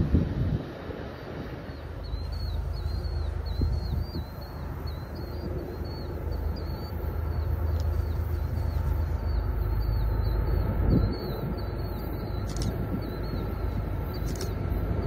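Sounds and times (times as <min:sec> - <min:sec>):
low rumble: 0:00.0 - 0:15.0
bird chirping: 0:01.7 - 0:15.0.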